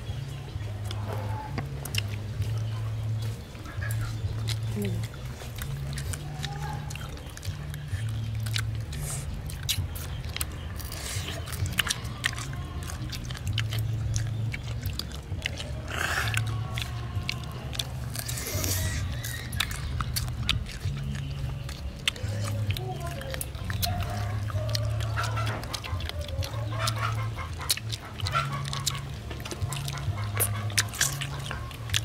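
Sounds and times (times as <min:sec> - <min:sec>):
background music bass line: 0:00.0 - 0:32.0
chewing crispy chicken wings: 0:00.0 - 0:32.0.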